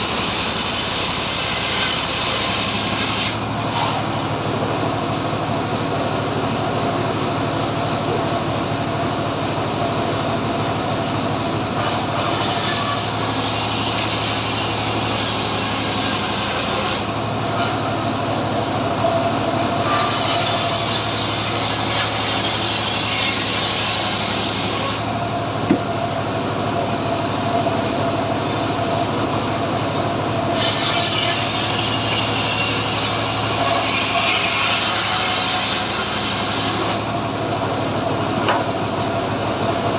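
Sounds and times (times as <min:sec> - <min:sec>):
engine-driven saw cutting wood: 0:00.0 - 0:39.9.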